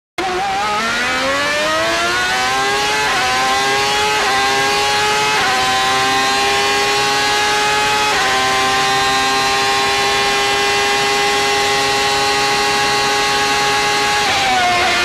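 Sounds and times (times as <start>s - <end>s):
racing car engine at full throttle: 0.2s - 15.0s.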